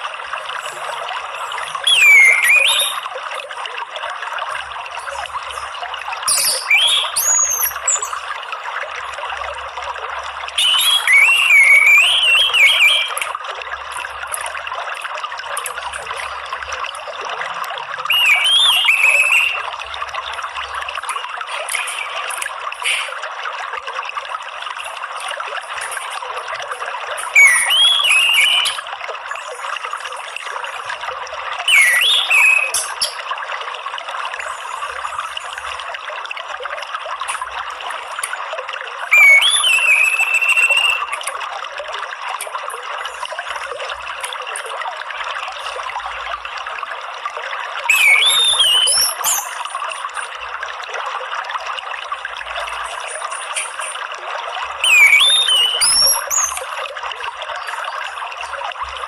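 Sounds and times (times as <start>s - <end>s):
trickling stream: 0.0s - 59.0s.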